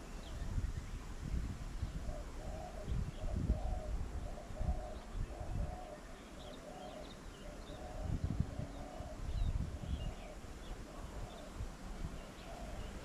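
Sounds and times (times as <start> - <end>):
small birds chirping: 0.0 - 13.0
wind rumbling on microphone: 0.0 - 13.0
bird cooing: 2.0 - 13.0.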